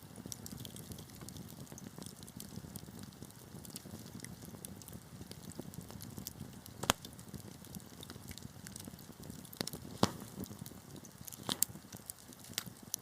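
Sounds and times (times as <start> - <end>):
wood fire crackling: 0.0 - 13.0
fire pops: 0.1 - 13.0.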